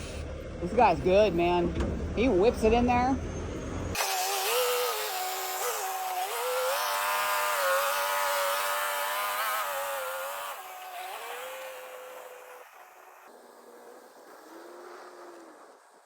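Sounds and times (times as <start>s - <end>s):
truck diesel engine pulling: 0.0s - 16.0s.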